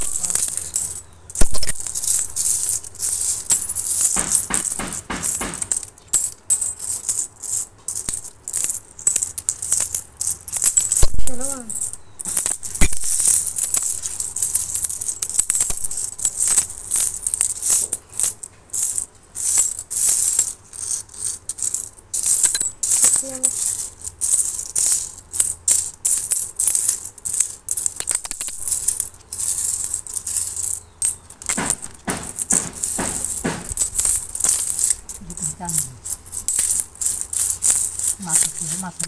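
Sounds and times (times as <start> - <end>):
coins jingling and clinking: 0.0 - 39.0.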